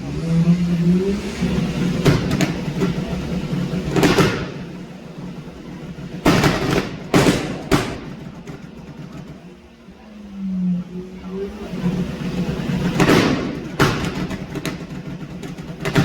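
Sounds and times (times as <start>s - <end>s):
car engine revving: 0.0s - 16.0s
loud exhaust bangs: 0.0s - 16.0s.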